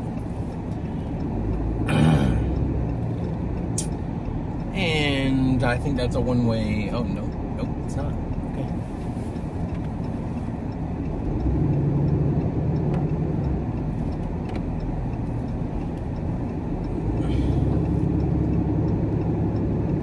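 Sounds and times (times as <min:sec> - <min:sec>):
road noise: 0:00.0 - 0:20.0
truck engine inside cab: 0:00.0 - 0:20.0.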